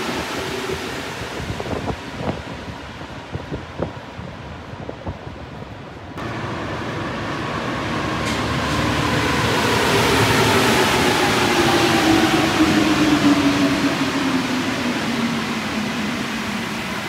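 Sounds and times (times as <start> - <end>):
metro train arriving: 0.0 - 17.0.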